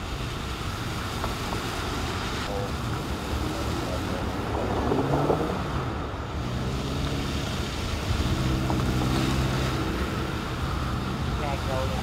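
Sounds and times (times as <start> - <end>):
car engines running: 0.0 - 12.0
water swishing under wheels: 0.0 - 12.0.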